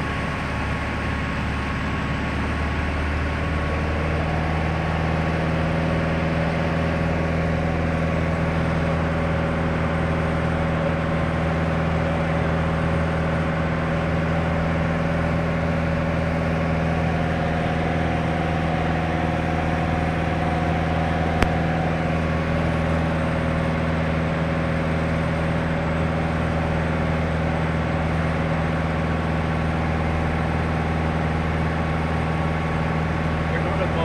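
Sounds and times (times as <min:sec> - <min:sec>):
aircraft engine droning: 0:00.0 - 0:34.0.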